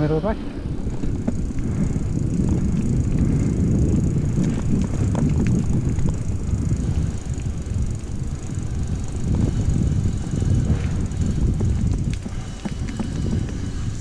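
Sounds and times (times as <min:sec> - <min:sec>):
rumble of tyres and wind: 0:00.0 - 0:14.0
small clicks and rattles: 0:00.9 - 0:14.0.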